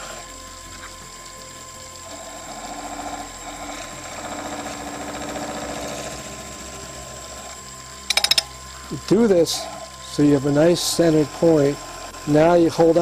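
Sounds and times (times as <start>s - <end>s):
chisel cutting wood on lathe: 0.0s - 1.1s, 2.0s - 13.0s
lathe motor hum: 0.0s - 13.0s.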